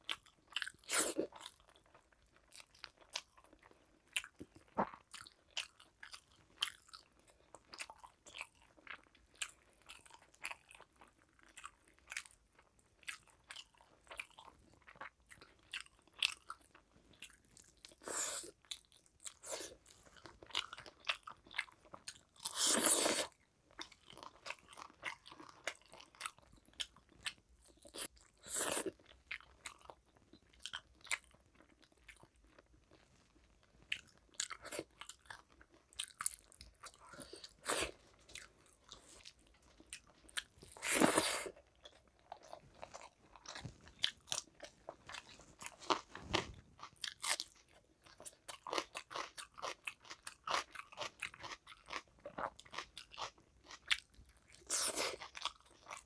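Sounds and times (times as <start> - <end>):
person chewing with wet clicks: 0.0 - 56.0.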